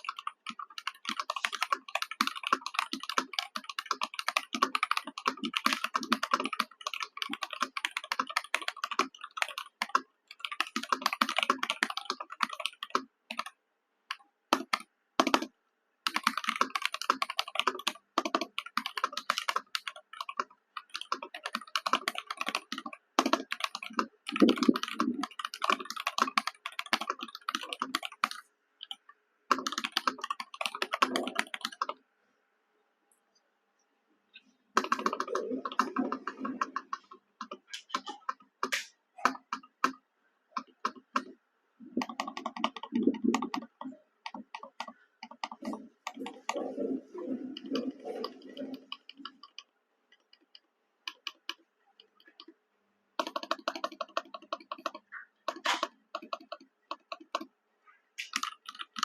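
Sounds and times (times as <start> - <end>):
mechanical keyboard typing: 0.0 - 32.0, 34.8 - 52.6, 53.2 - 57.5, 58.2 - 59.0.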